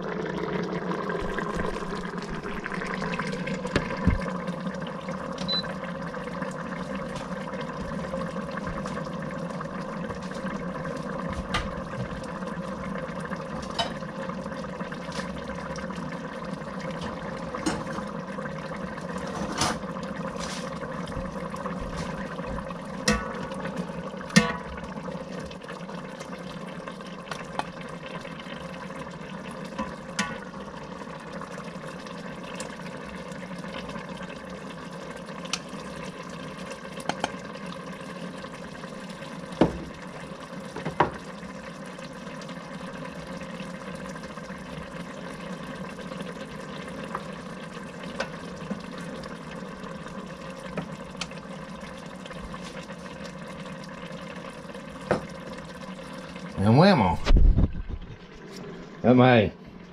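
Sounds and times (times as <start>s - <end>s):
casserole bubbling: 0.0s - 59.9s
pressure cooker hum: 0.0s - 59.9s.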